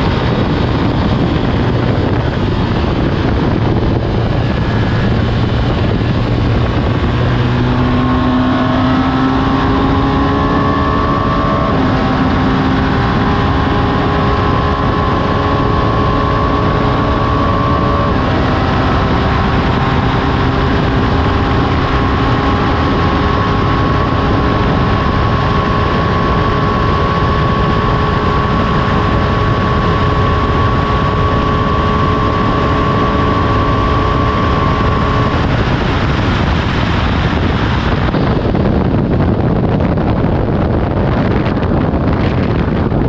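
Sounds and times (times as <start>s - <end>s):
motorcycle engine at speed: 0.0s - 43.0s
wind noise on microphone: 0.0s - 43.0s.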